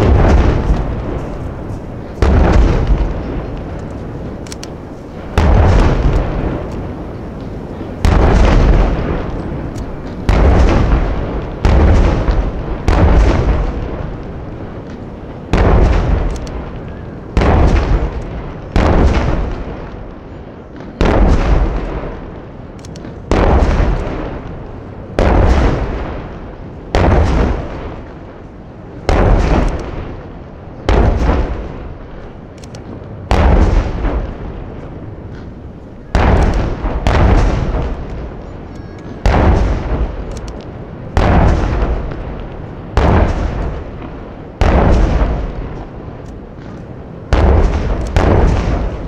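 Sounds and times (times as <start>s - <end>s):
firework shells booming: 0.0s - 49.0s
rolling echo: 0.0s - 49.0s.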